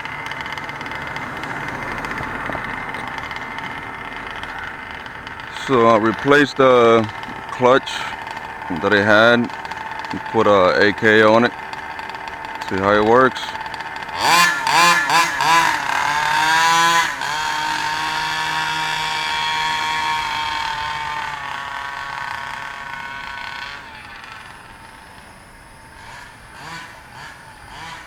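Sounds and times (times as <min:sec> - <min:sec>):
two-stroke engine revving: 0:00.0 - 0:28.0.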